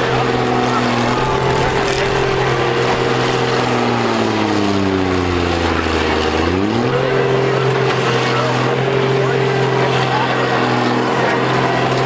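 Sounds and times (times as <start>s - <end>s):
diesel engines running hard: 0.0s - 12.0s.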